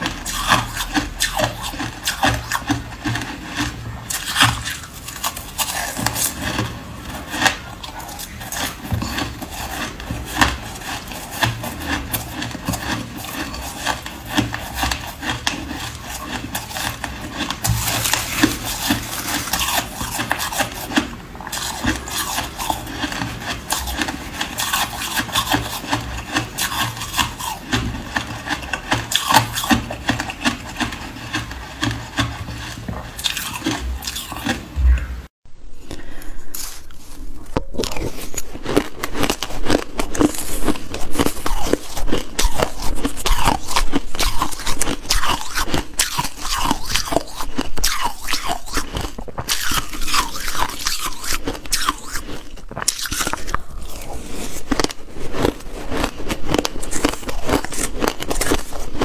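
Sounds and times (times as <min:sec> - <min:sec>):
chewing shaved ice crunching: 0:00.0 - 0:34.8, 0:36.6 - 0:59.0.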